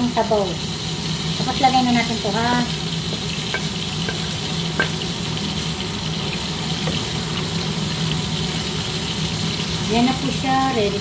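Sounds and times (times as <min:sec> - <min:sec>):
stew simmering with hiss: 0:00.0 - 0:11.0.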